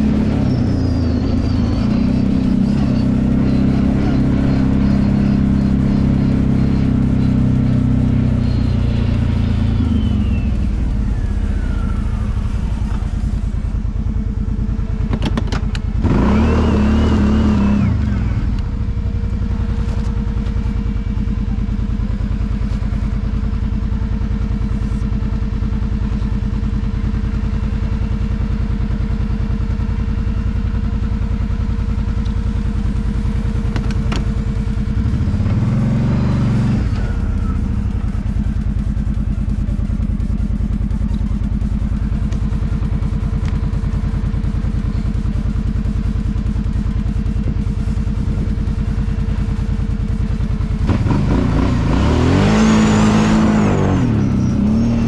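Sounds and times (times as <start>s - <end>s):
atv engine revving: 0.0s - 21.6s, 29.0s - 55.0s.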